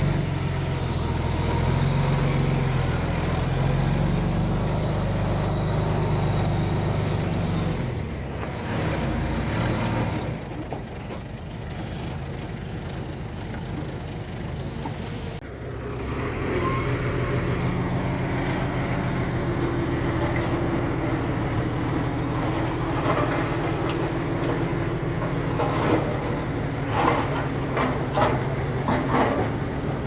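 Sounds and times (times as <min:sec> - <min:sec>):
heavy machinery diesel engines: 0:00.0 - 0:30.0.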